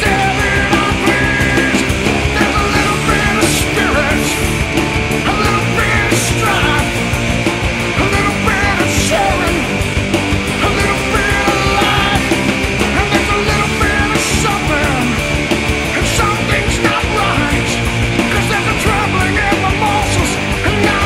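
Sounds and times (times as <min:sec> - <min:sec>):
loud rock band music: 0:00.0 - 0:21.0.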